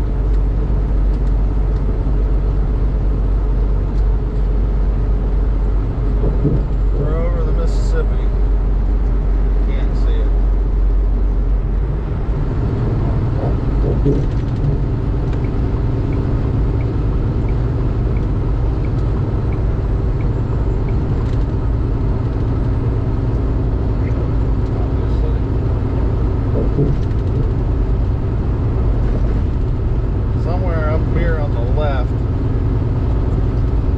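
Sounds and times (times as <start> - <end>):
diesel engine drone: 0.0 - 33.9
road noise: 0.0 - 33.9.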